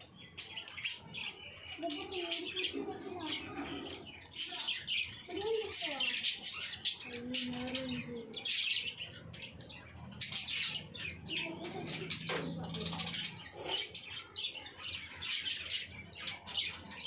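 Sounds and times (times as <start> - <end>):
budgerigars chirping and chattering: 0.0 - 17.0.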